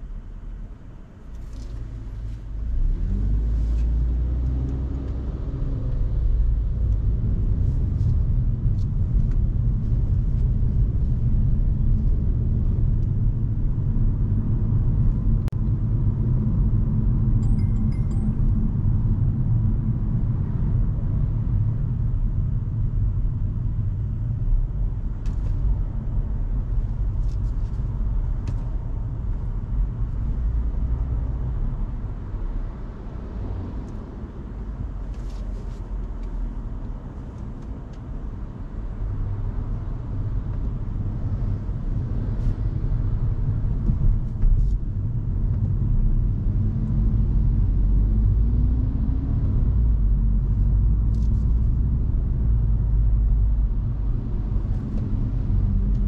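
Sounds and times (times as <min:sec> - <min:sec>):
road and tyre noise: 0:00.0 - 0:56.0.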